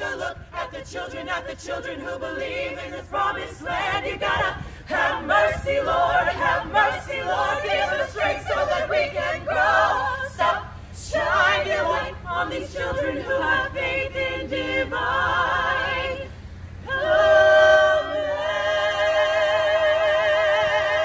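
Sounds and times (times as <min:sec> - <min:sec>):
mixed choir singing in harmony: 0:00.0 - 0:21.0.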